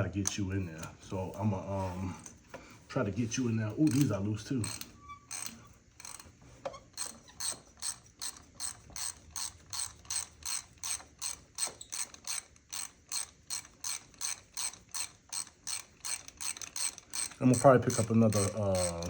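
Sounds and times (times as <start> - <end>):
ratchet wrench clicking: 3.7 - 19.0.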